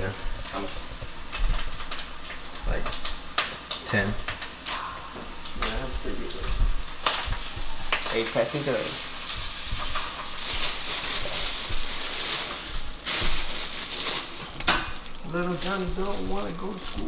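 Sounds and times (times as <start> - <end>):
food sizzling in a frying pan: 0.0 - 17.0.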